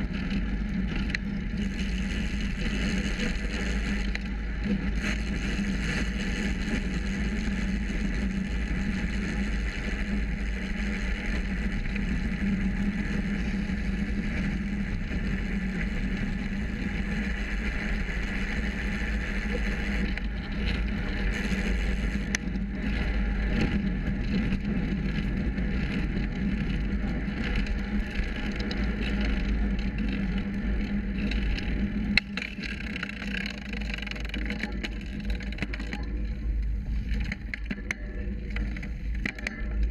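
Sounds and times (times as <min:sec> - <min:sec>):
bike rattling: 0:00.0 - 0:39.9
road noise: 0:00.0 - 0:39.9
steady hum from bike: 0:00.0 - 0:39.9.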